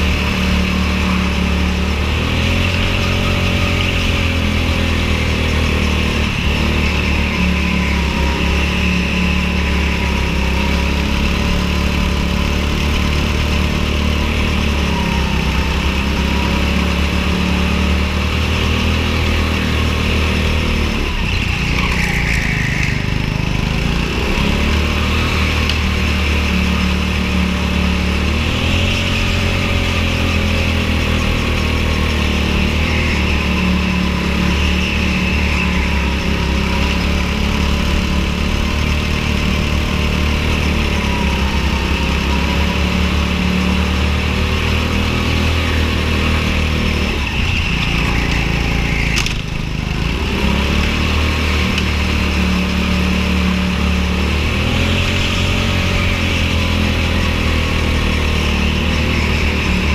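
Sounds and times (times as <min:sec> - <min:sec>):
go-kart engine at high revs: 0:00.0 - 0:59.9.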